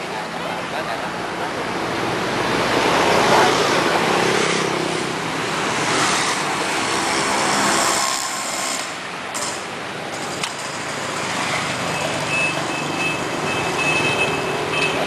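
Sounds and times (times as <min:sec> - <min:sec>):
vehicle engines passing: 0:00.0 - 0:15.0.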